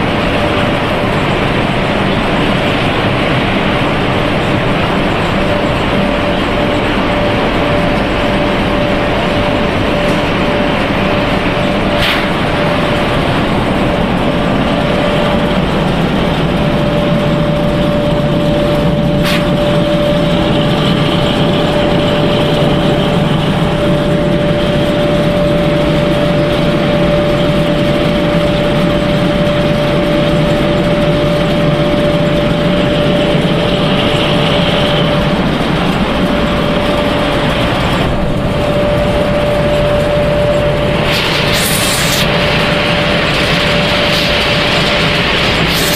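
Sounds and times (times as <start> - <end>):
machinery droning: 0.0 - 45.9.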